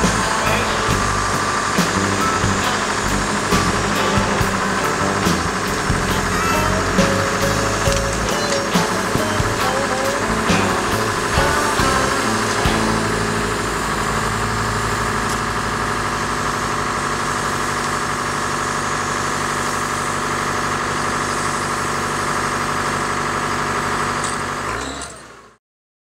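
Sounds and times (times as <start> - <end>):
heavy machine engine idling: 0.0 - 25.5.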